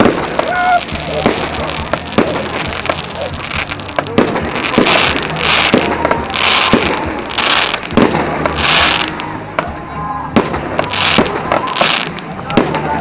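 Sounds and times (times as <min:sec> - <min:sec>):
fireworks hissing crackle: 0:00.0 - 0:09.6, 0:10.4 - 0:13.0
fireworks bursting with bangs: 0:00.0 - 0:13.0.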